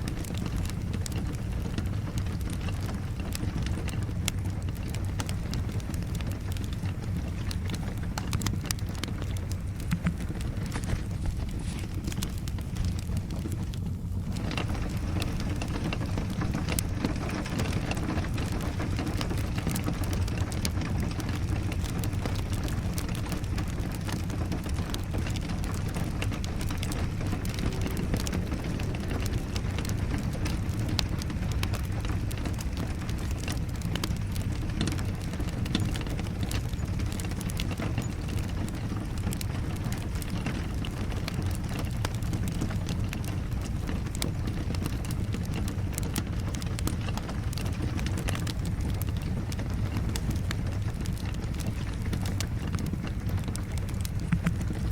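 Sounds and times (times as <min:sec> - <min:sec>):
steady rain: 0:00.0 - 0:54.9
wood fire crackling: 0:00.0 - 0:54.9.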